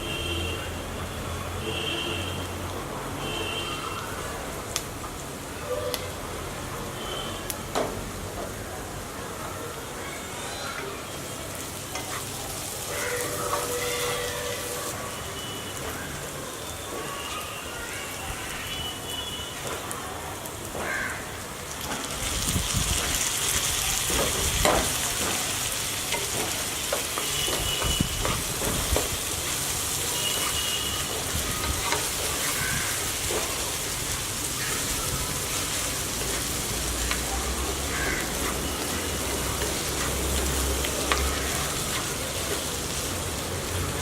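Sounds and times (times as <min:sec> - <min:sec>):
food sizzling in a pan: 0:00.8 - 0:44.0.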